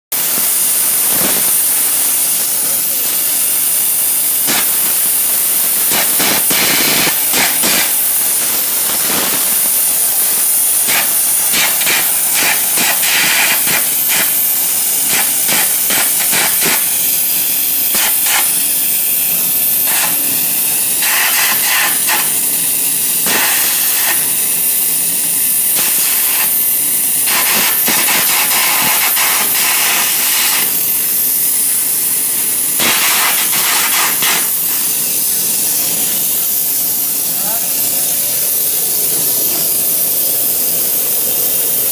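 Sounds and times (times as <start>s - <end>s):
compressed air hissing: 0.1s - 41.9s
arc crackling and popping: 0.2s - 41.9s.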